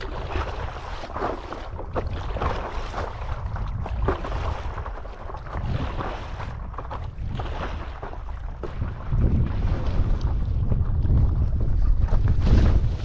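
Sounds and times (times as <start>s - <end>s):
short splashes: 0.0s - 10.7s
water sloshing around paddle board: 0.0s - 13.0s
wind rumbling on microphone: 0.0s - 13.0s.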